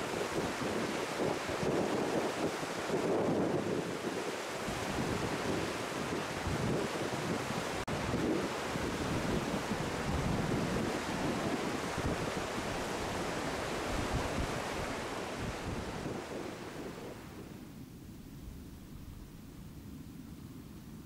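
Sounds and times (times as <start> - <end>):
river rapids rushing: 0.0 - 17.2.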